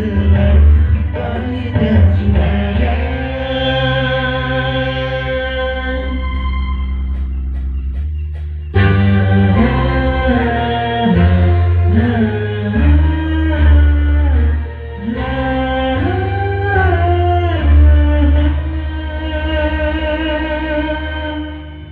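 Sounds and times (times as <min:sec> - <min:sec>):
heavy bass: 0:00.0 - 0:21.9
song with gliding melody: 0:00.0 - 0:21.9.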